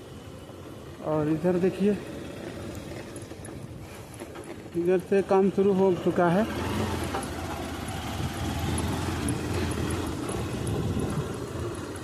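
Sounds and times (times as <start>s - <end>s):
motorbike engine rumbling: 0.0s - 12.0s.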